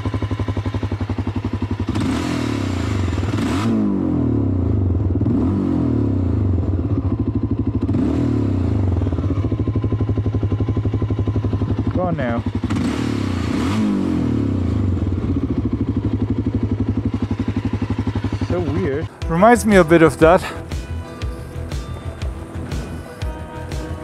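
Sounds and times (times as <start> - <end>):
electric motorcycle whine: 0.0 - 24.0.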